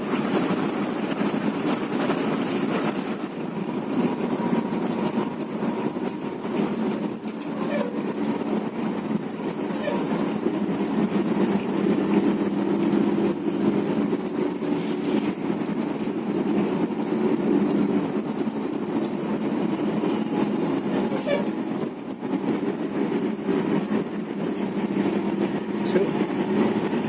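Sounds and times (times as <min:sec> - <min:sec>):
bus engine hum: 0:00.0 - 0:27.0
road noise: 0:00.0 - 0:27.0.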